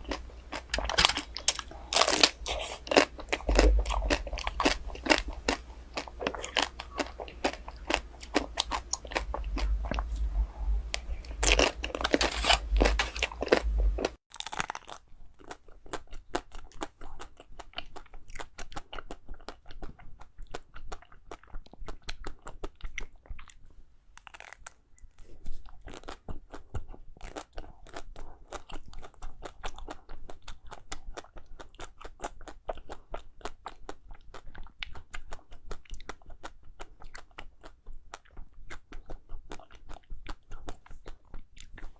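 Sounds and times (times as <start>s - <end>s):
crunching bites and chewing: 0.0s - 23.6s, 24.2s - 41.9s.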